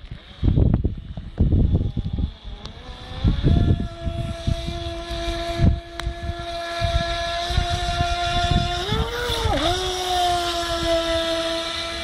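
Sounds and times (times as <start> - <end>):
electric boat motor whine: 0.0 - 12.0
wind rumble on microphone: 0.0 - 12.0.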